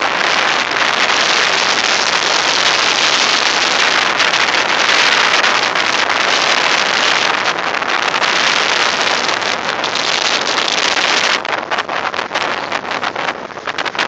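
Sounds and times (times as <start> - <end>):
sand streaming: 0.0 - 14.0
wind blowing over microphone: 0.0 - 14.0.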